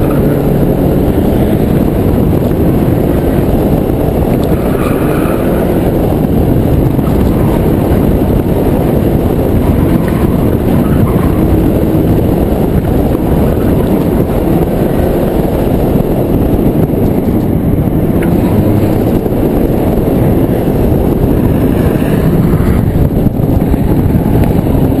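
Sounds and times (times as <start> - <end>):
car engine and road rumble: 0.0 - 25.0
wind buffeting microphone: 0.0 - 25.0.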